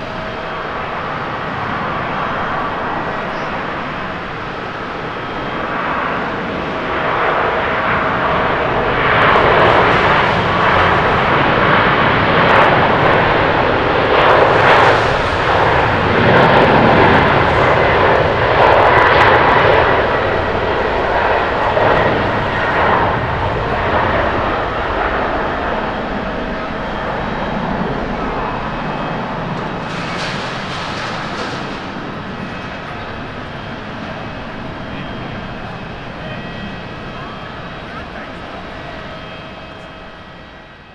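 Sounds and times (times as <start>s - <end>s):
jet engines roaring: 0.0s - 40.9s.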